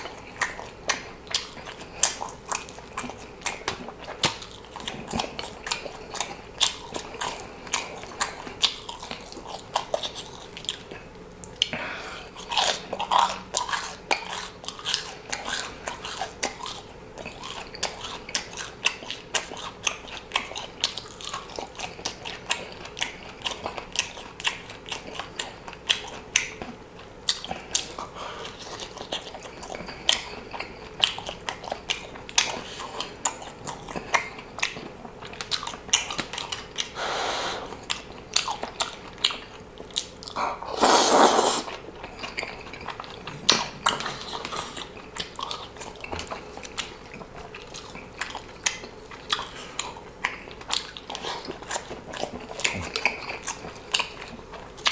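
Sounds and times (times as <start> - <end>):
sharp crunching clicks and smacks: 0.0 - 11.8, 12.4 - 37.0, 41.7 - 54.9
person chewing and biting: 0.0 - 37.0, 37.6 - 54.9.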